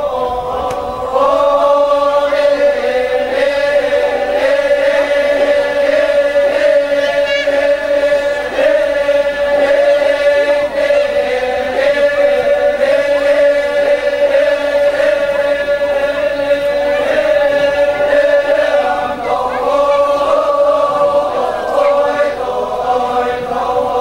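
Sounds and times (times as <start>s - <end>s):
group of voices chanting: 0.0s - 24.0s.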